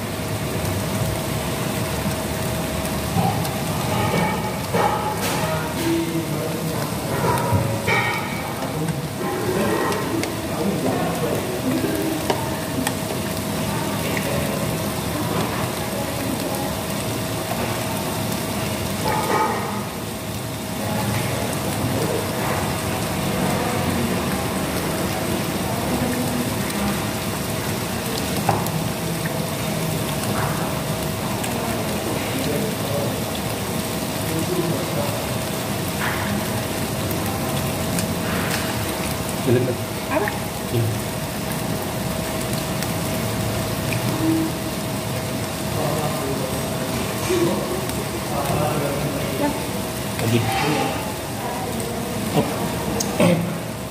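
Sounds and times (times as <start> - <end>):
meat sizzling on grill pan: 0.0 - 53.9.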